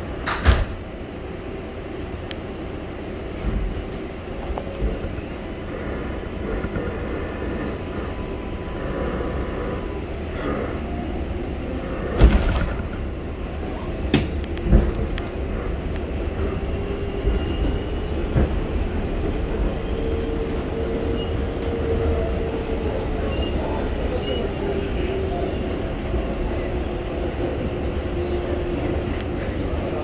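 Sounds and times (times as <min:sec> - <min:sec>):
steady train whine: 0:00.0 - 0:30.0
train rumble on track: 0:00.0 - 0:30.0.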